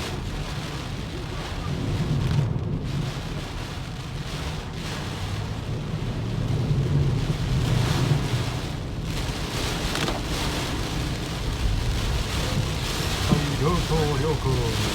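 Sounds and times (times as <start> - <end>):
heavy rain on a car: 0.0 - 14.9.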